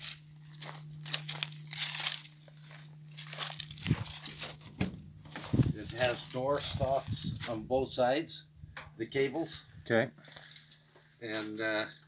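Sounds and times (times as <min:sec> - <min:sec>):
footsteps crunching: 0:00.0 - 0:08.1, 0:09.0 - 0:12.0
steady low hum: 0:00.0 - 0:12.0.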